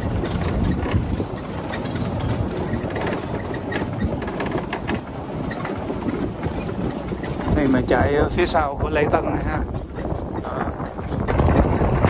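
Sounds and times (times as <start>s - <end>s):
light rattling clicks from cart: 0.0s - 12.0s
tyres rumbling on stone paving: 0.0s - 12.0s.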